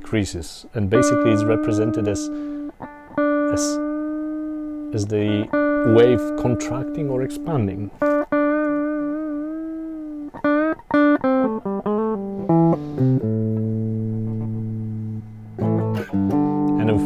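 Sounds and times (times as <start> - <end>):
clean electric guitar: 0.6 - 17.0.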